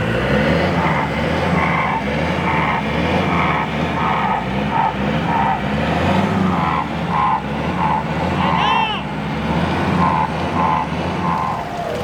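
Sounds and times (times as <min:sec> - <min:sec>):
off-road engine running hard: 0:00.0 - 0:12.0.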